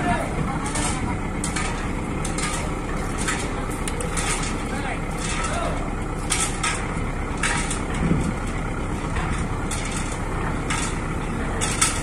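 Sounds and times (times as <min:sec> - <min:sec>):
boat diesel engine rumbling: 0:00.0 - 0:12.0.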